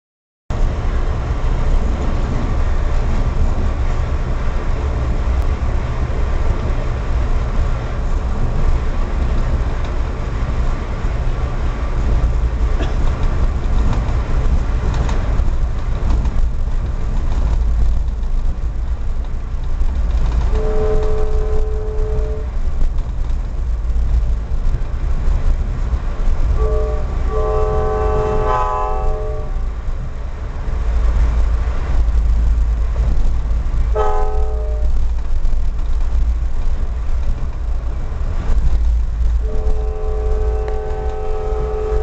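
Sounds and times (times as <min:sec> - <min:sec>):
train wheels rumbling on rail: 0:00.5 - 0:42.0.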